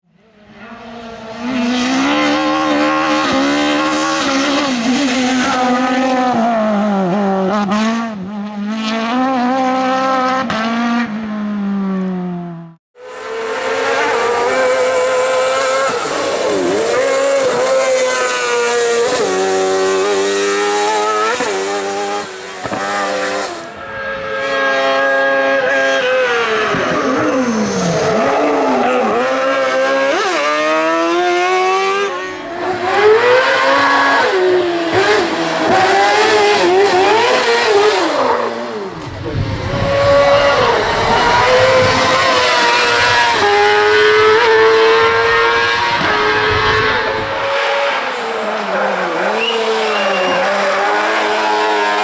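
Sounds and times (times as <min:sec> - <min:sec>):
buggy engines revving: 0:00.3 - 0:52.0.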